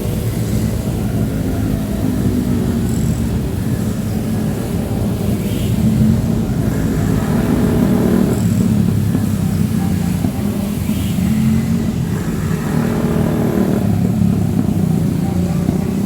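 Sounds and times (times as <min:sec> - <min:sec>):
rain hiss: 0:00.0 - 0:16.0
vehicle engine rumble: 0:00.0 - 0:16.0.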